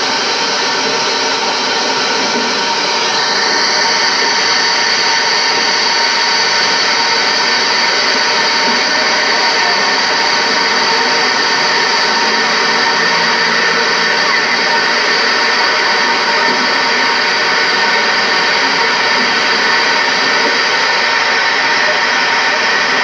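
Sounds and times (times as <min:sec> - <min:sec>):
boat motor droning with whine: 0:00.0 - 0:23.0.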